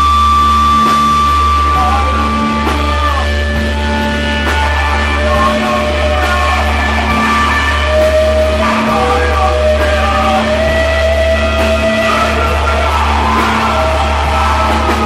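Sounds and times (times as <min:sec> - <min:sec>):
long held notes shifting in pitch: 0:00.0 - 0:15.0
low bass drone: 0:00.0 - 0:15.0.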